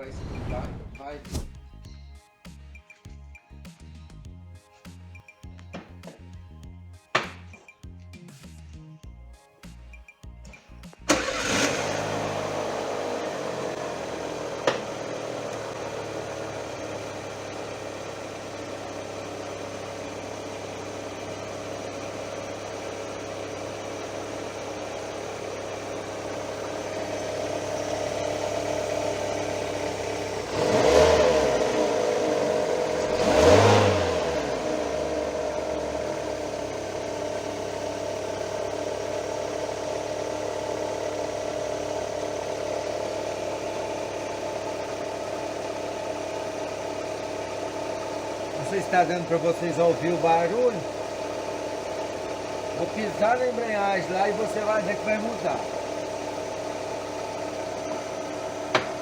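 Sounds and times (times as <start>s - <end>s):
engine revving: 0.0s - 1.9s, 11.0s - 59.0s
car engine idling: 9.7s - 59.0s.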